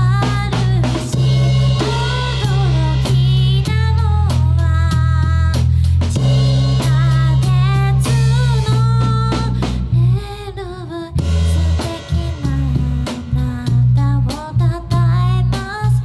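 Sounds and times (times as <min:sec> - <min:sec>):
drum kit beat: 0:00.0 - 0:10.2, 0:11.2 - 0:16.0
heavy bass guitar: 0:00.0 - 0:16.0.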